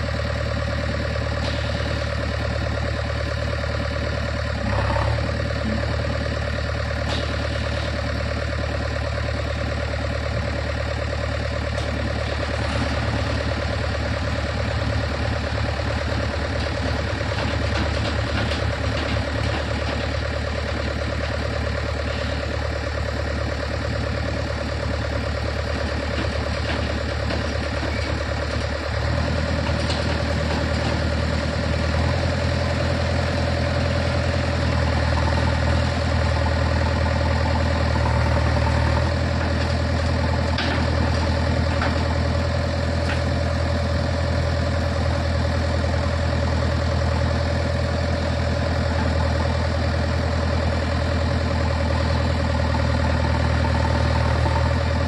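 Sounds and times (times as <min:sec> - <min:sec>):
backhoe digging earth: 0:00.0 - 0:55.0
diesel engine running: 0:00.0 - 0:55.0.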